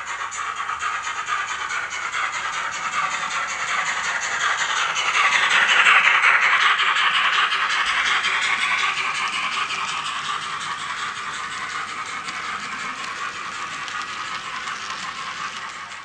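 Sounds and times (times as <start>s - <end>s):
model train rolling rattle: 0.0s - 16.0s.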